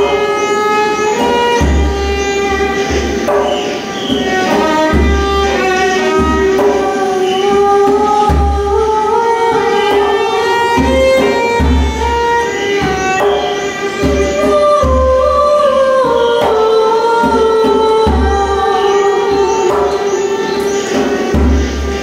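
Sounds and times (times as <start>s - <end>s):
low drum beats: 0.0s - 18.6s, 19.2s - 22.0s
violin sustained notes: 0.0s - 22.0s.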